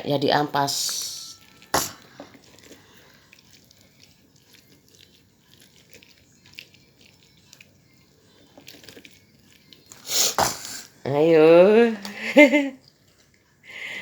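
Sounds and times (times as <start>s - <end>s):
orange squishing while juiced: 0.1s - 11.1s, 12.8s - 13.8s.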